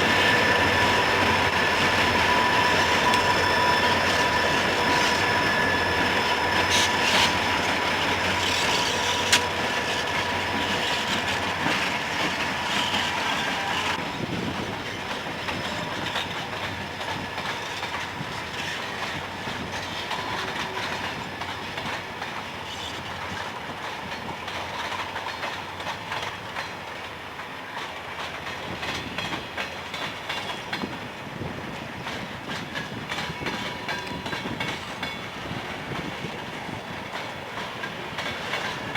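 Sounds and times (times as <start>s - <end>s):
train wheels clicking over rails: 0.0s - 38.9s.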